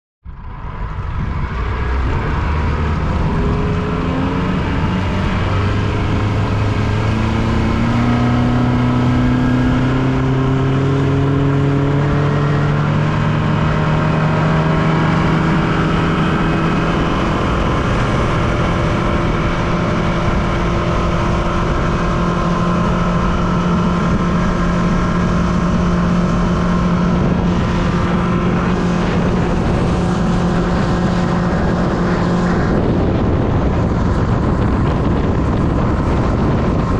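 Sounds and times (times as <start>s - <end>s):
outboard motor accelerating: 0.3s - 36.9s.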